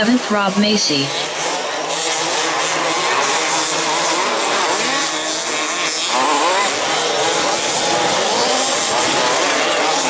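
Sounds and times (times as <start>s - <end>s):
rc car engines revving: 0.0s - 10.0s.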